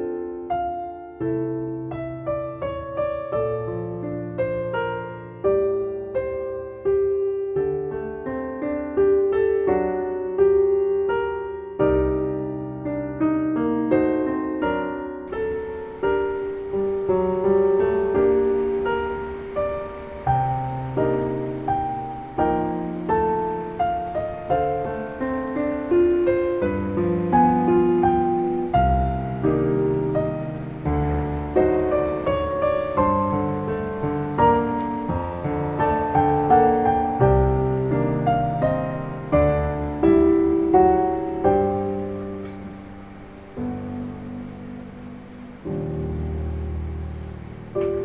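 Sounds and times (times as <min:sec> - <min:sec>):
soft piano music: 0:00.0 - 0:48.0.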